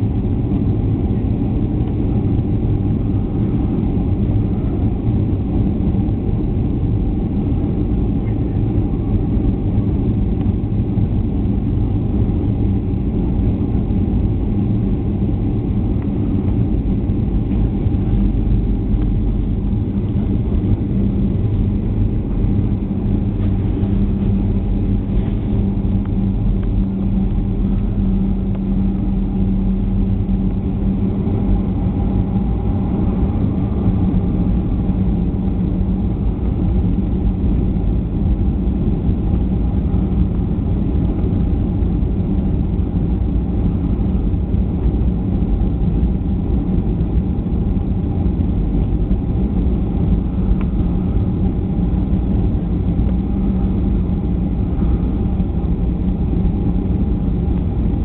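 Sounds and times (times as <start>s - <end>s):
constant low hum: 0.0s - 58.0s
engine and airflow drone: 0.0s - 58.0s.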